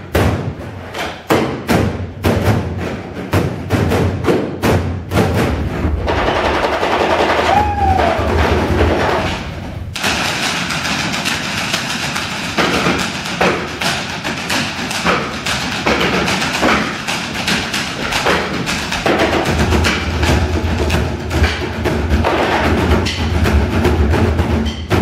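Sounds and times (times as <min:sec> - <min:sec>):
drums played fast: 0:01.6 - 0:25.0.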